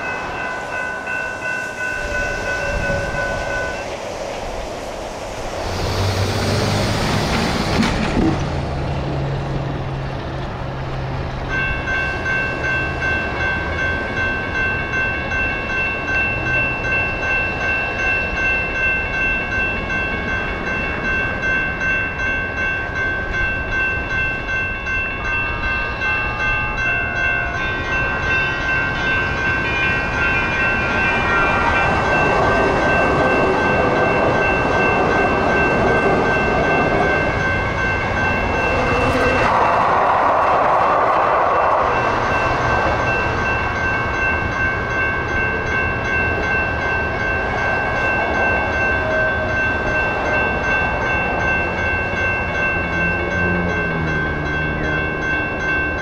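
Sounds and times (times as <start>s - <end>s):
railroad crossing bells ringing: 0.0s - 56.0s
train rushing past: 0.0s - 56.0s.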